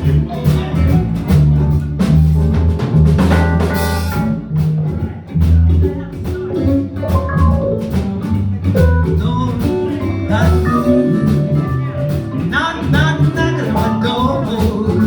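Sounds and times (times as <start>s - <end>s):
blues band playing: 0.0s - 15.0s
guitar fill: 0.0s - 15.0s.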